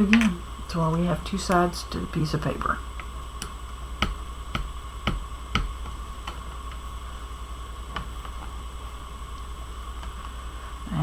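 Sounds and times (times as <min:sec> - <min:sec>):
low electrical hum with whine: 0:00.0 - 0:11.0.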